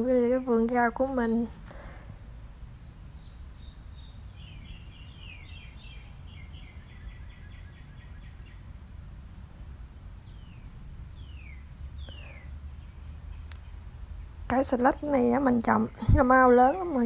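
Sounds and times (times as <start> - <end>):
low outdoor rumble: 0.0 - 17.0
small songbird singing: 0.0 - 17.0.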